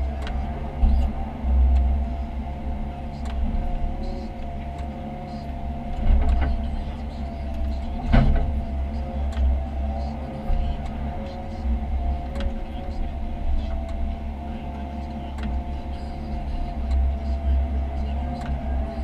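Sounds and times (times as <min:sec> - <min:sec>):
excavator diesel engine whining: 0:00.0 - 0:19.0.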